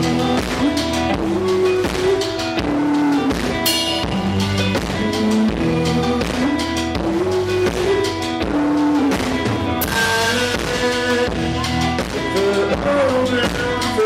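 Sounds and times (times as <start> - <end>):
drum kit: 0.0 - 14.0
electric bass: 0.0 - 14.0
electric guitar: 0.0 - 14.0.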